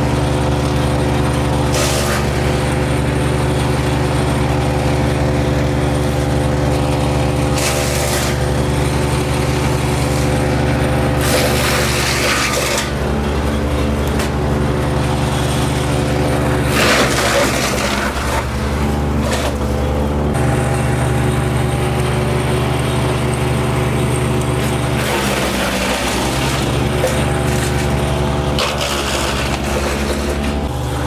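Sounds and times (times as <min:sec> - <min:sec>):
wood chipper engine running: 0:00.0 - 0:31.0.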